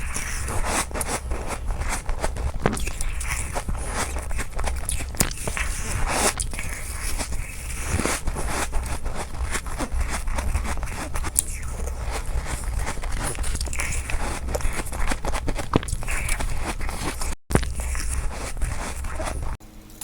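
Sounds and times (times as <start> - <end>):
ice crunching while chewed: 0.0 - 19.6.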